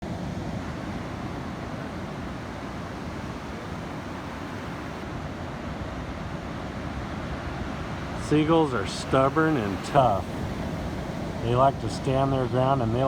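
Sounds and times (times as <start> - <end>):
ocean waves: 0.0 - 13.0
wind on microphone: 0.0 - 13.0.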